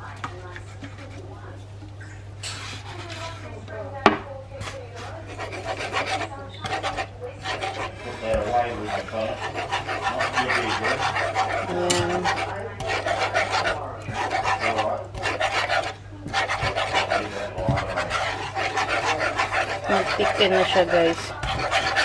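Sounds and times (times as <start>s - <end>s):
whisk scraping a frying pan: 0.0s - 1.6s, 2.4s - 3.6s, 4.5s - 22.0s.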